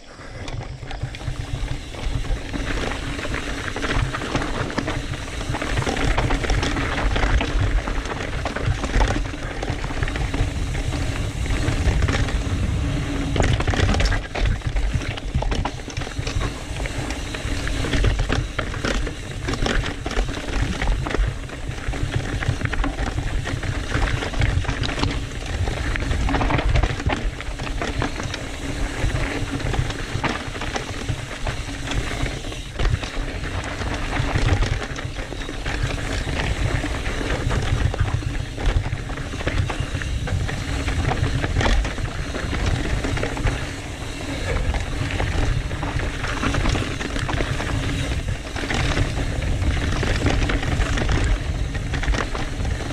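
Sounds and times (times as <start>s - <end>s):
bike rattling over rocks: 0.0s - 52.9s
steady low rumble: 0.0s - 52.9s.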